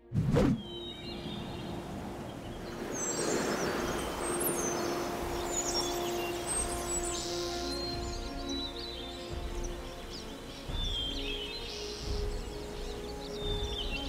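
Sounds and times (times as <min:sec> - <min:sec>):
steady rushing background: 0:00.0 - 0:14.0
birds chirping: 0:00.5 - 0:14.0.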